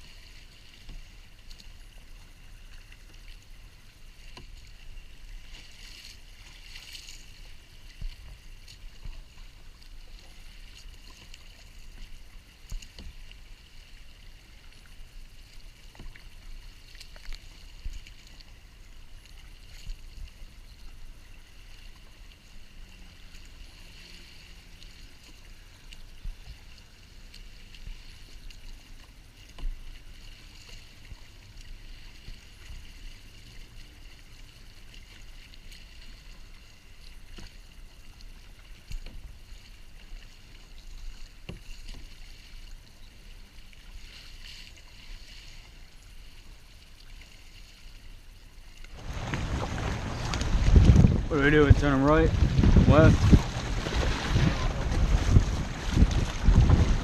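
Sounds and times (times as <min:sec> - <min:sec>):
water splashing around kayak: 0:00.0 - 0:57.0.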